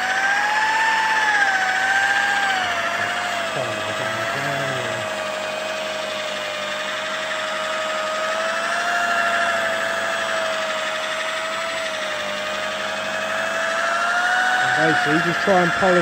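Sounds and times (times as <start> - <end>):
electric polisher motor whine: 0.0 - 16.0.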